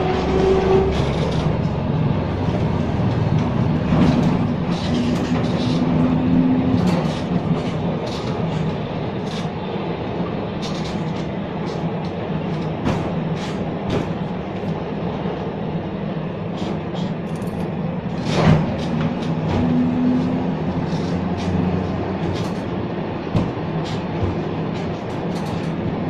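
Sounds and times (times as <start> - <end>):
tram rumbling: 0.0 - 26.0.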